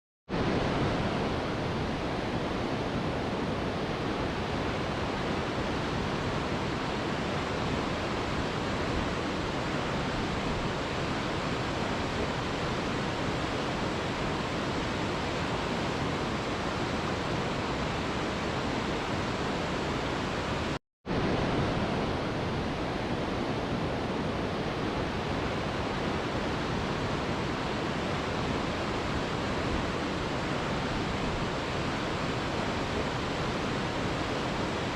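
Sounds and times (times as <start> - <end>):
waterfall roaring: 0.4 - 34.9.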